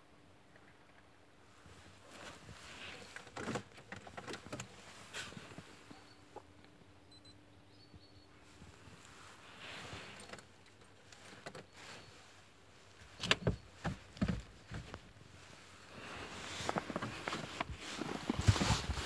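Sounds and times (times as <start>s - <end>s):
faint steady hum: 0.0s - 19.0s
handling knocks and rustles: 1.6s - 6.5s, 8.6s - 19.0s.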